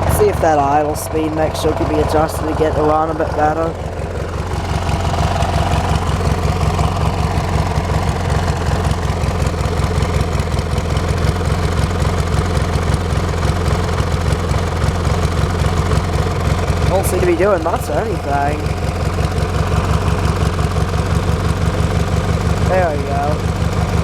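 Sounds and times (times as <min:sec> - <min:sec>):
lawn tractor engine idling: 0:00.0 - 0:24.0.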